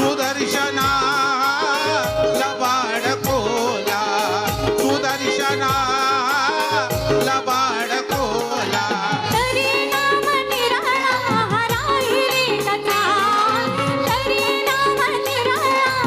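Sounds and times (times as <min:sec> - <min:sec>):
fast drum beat: 0:00.0 - 0:16.0.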